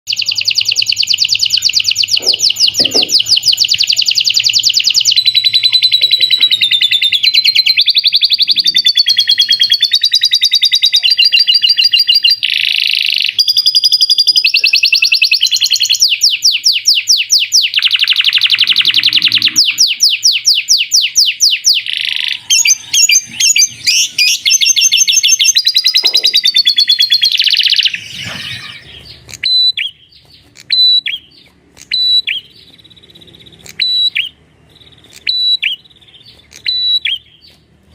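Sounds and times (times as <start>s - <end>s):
songbird singing trills: 0.1s - 37.7s.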